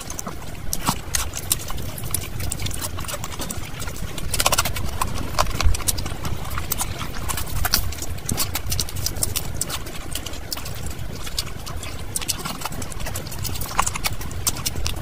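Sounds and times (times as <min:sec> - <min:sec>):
mouth clicks and smacks: 0:00.0 - 0:15.0
wet chewing: 0:00.0 - 0:15.0.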